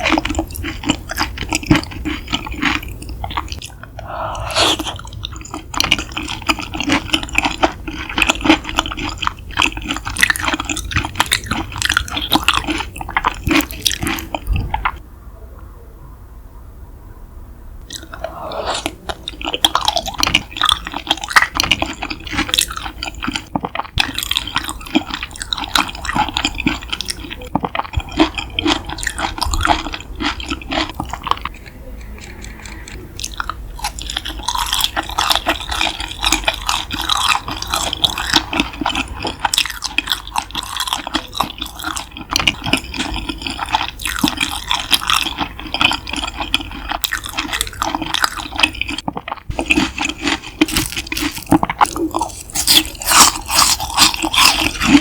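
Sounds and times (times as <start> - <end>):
wet chewing and mouth smacks: 0.0 - 15.0, 17.8 - 55.0.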